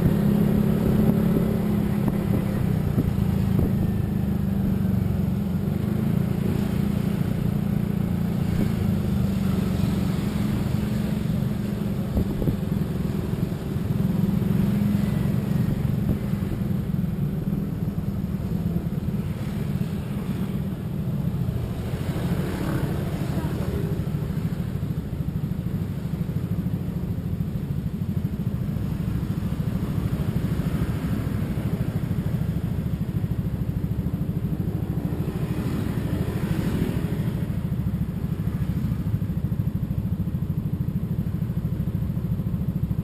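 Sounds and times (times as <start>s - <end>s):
low engine drone: 0.0s - 43.0s
road and wind noise: 0.0s - 43.0s.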